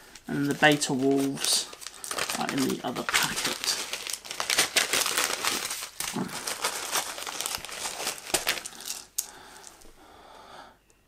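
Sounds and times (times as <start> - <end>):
plastic bag crinkling: 0.3 - 9.8.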